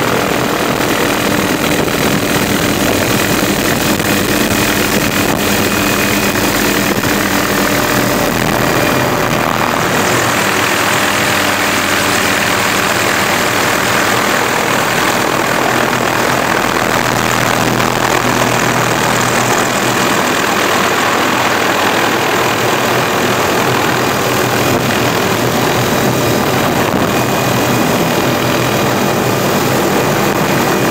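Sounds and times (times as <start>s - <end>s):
helicopter engine and rotor: 0.0s - 30.9s.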